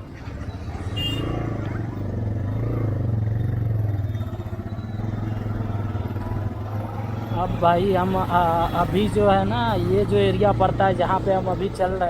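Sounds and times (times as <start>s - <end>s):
motorcycle engine droning: 0.2s - 12.0s.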